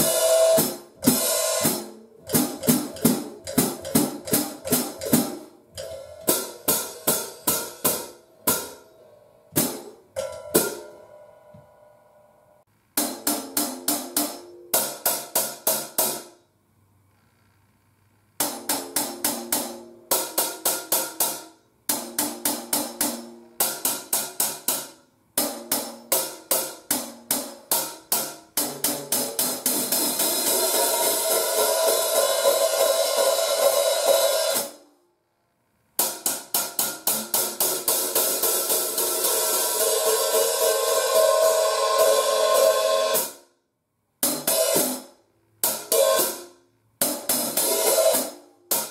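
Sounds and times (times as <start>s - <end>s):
hi-hat played with sticks: 0.0s - 11.1s, 13.0s - 16.4s, 18.4s - 34.9s, 36.0s - 43.5s, 44.2s - 48.9s.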